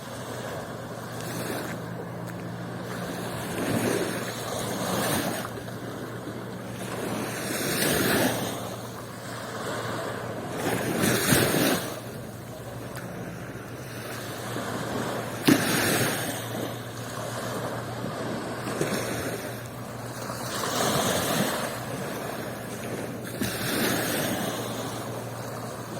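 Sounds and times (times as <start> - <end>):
sea waves breaking on beach: 0.0 - 25.9.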